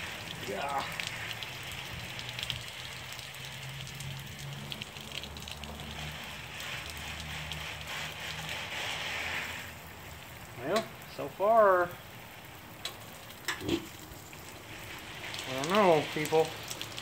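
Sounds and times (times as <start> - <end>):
water splashing onto concrete: 0.0 - 17.0.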